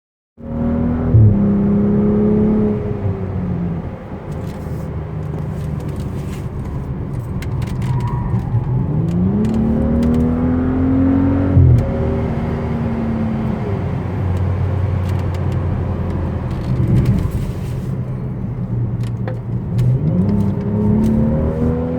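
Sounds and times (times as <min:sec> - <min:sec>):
car engine revving under acceleration: 0:00.4 - 0:21.9.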